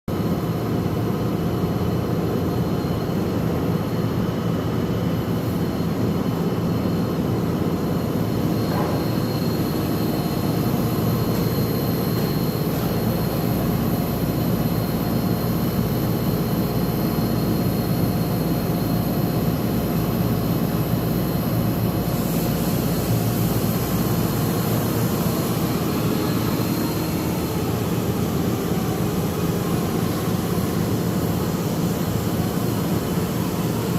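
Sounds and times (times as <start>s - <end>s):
machine drone: 0.1s - 33.9s
faint high whine: 0.3s - 33.9s.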